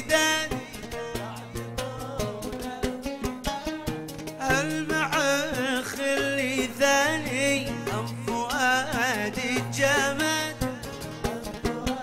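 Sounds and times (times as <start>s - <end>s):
man singing: 0.0s - 12.0s
oud plucked notes: 0.0s - 12.0s
steady drum beats: 0.0s - 12.0s.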